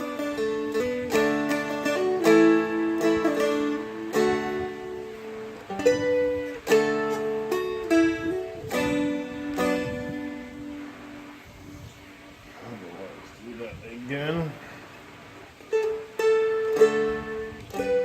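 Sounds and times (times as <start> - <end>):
guitar picked slowly: 0.0 - 12.6, 14.5 - 18.0.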